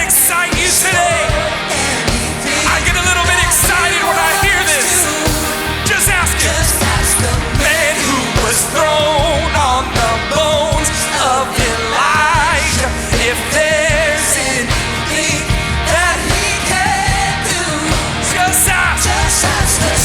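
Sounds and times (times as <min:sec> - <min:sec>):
lead vocal singing: 0:00.0 - 0:20.0
rock band playing: 0:00.0 - 0:20.0.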